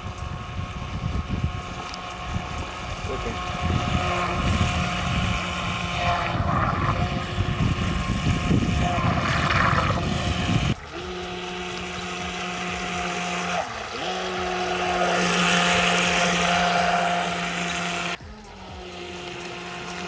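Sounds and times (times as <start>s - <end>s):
electric motor whining: 0.0s - 20.0s
wind rumbling on microphone: 0.0s - 20.0s.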